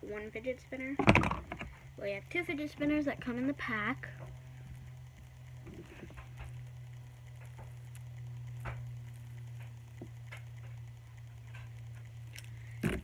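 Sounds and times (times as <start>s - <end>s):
fidget spinner whirring: 0.0s - 13.0s
low hum: 0.0s - 13.0s.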